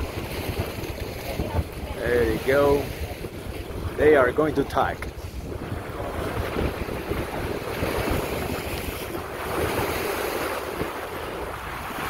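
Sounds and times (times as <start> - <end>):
water rushing beside boat: 0.0 - 12.0
wind across microphone: 0.0 - 12.0.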